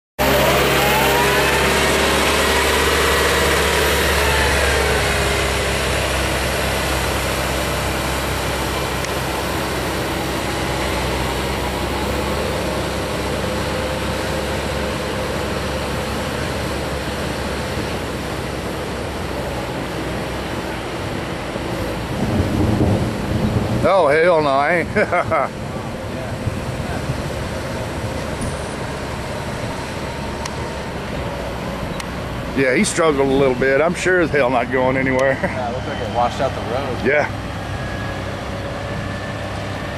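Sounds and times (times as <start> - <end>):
rushing floodwater: 0.2 - 39.9
wheel loader diesel engine: 0.2 - 39.9.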